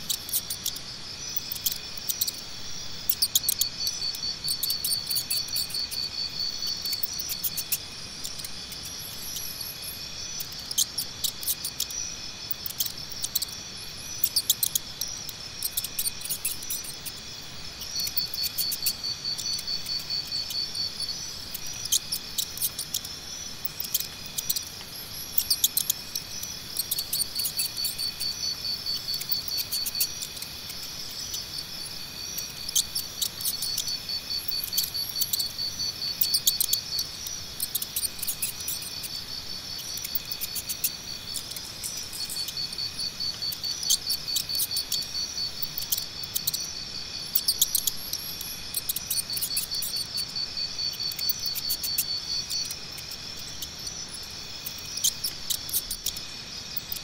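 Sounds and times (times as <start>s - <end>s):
high fast-pulsed insect trill: 0.0s - 57.0s
insects chirping: 0.0s - 57.0s.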